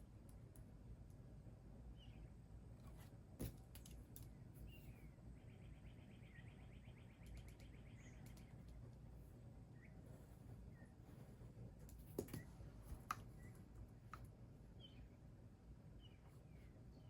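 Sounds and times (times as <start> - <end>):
faint birdsong: 1.4 - 17.0.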